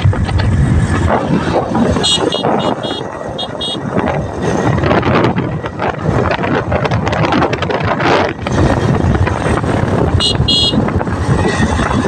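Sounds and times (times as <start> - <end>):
motorcycle running: 0.0 - 12.0
road noise: 0.0 - 12.0
wind buffeting microphone: 0.0 - 12.0.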